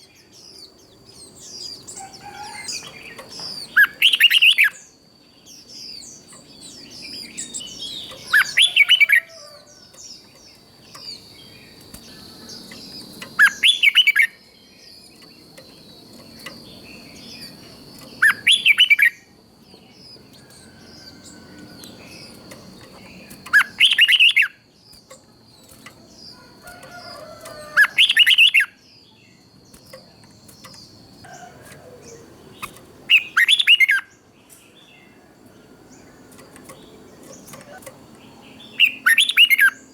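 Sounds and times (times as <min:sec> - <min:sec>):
bird singing loud song phrases: 0:00.0 - 0:39.9.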